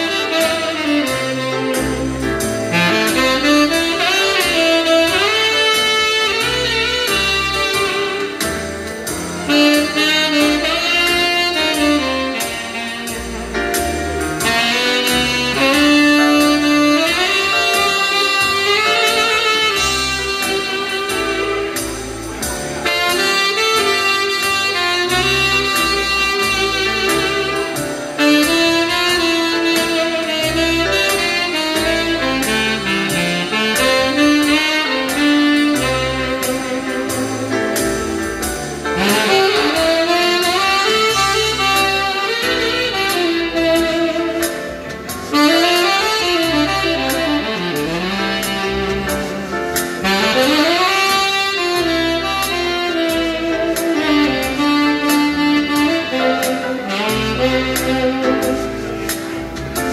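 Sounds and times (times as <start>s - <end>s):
musical accompaniment with bass: 0.0s - 59.9s
saxophone melody: 0.0s - 59.9s.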